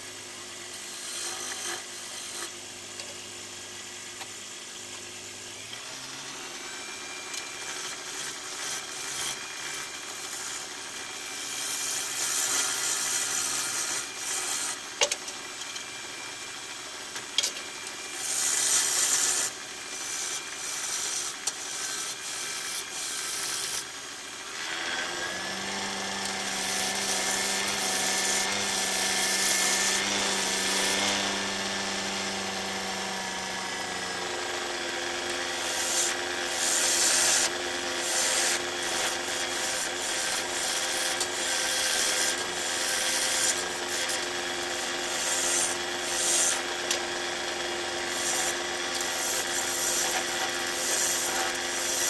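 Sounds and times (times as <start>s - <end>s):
wood lathe humming: 5.6s - 14.9s, 17.4s - 52.0s
tool scraping spinning wood: 5.6s - 52.0s.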